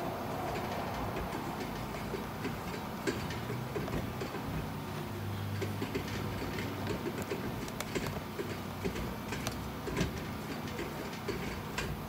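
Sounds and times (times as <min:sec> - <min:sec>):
metallic clicking of clutch drum: 0:00.4 - 0:04.8, 0:05.4 - 0:12.0.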